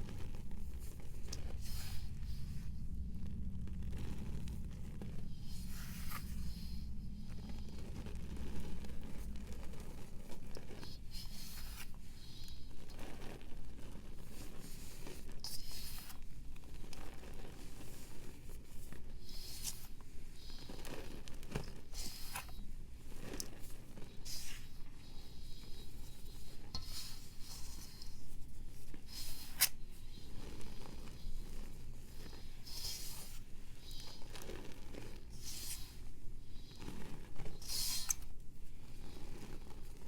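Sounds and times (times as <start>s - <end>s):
gritty scraping of powder block: 0.0s - 40.0s.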